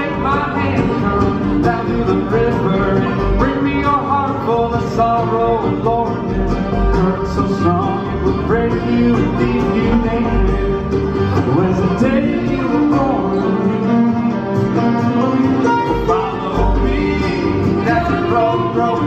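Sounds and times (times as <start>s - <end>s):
acoustic guitar: 0.0s - 19.0s
banjo: 0.0s - 19.0s
fiddle: 0.0s - 19.0s
mandolin: 0.0s - 19.0s
upright bass: 0.0s - 19.0s.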